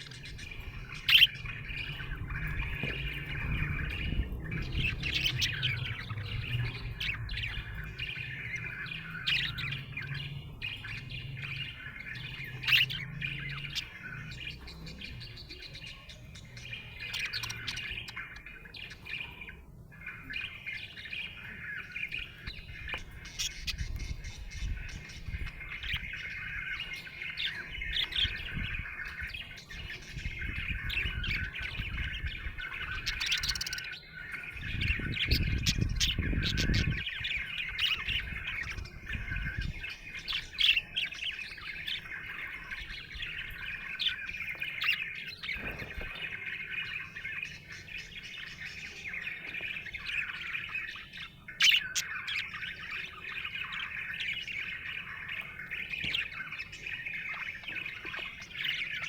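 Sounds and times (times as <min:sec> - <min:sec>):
budgerigar chirping and warbling: 0:00.0 - 0:59.0.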